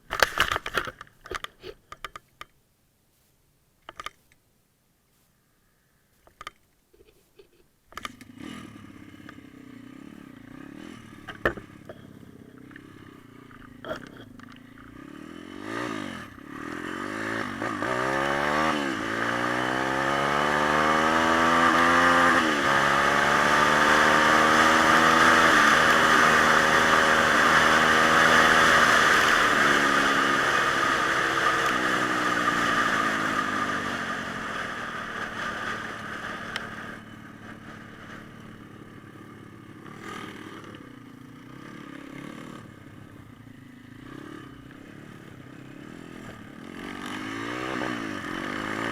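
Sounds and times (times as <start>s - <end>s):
small motorbike engine revving: 7.9s - 48.9s.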